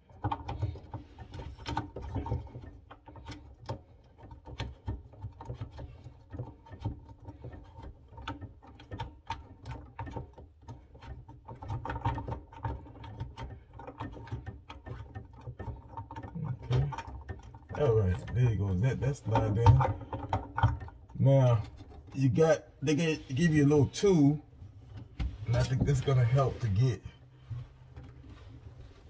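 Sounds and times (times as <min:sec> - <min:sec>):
hose and fittings knocking: 0:00.0 - 0:29.0.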